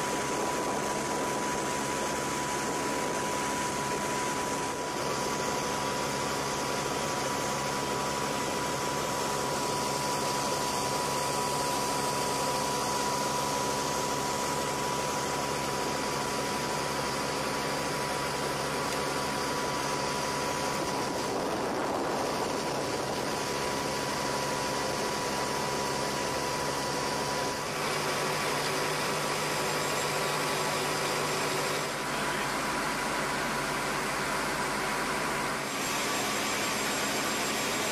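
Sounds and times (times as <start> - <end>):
high constant whine: 0.0 - 37.9.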